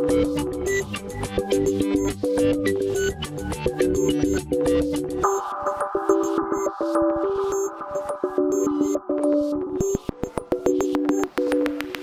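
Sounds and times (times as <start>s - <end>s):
quick ticking electronic beat: 0.3s - 12.0s.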